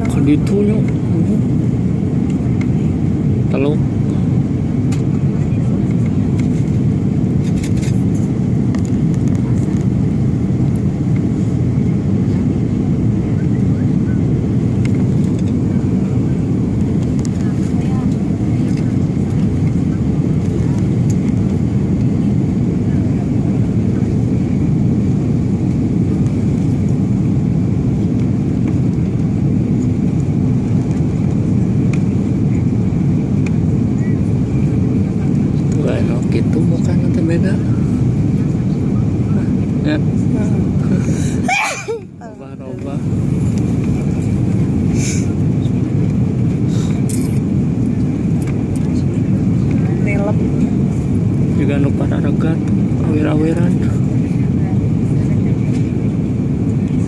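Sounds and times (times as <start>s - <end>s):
airliner cabin engine roar: 0.0s - 57.0s.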